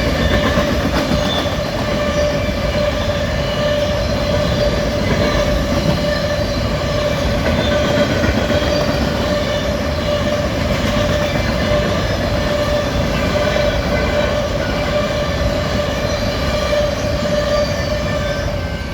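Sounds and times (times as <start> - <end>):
high squeal: 0.0 - 18.9
train wheels rumbling on rail: 0.0 - 18.9.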